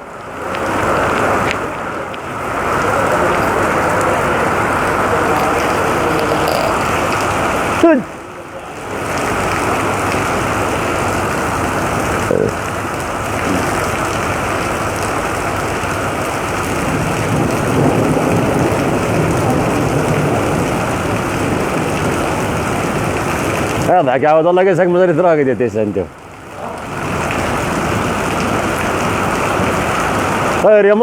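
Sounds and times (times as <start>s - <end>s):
torrential rain pouring: 0.0s - 31.0s.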